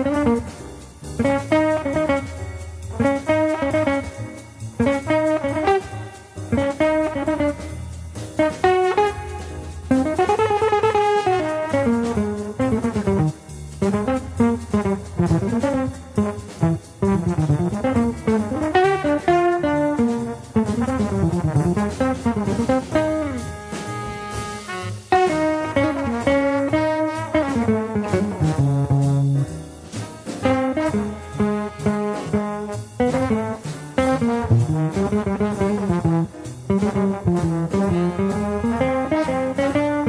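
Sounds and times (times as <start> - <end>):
bass: 0.0 - 40.0
drums: 0.0 - 40.0
jazz trombone solo: 0.0 - 40.0.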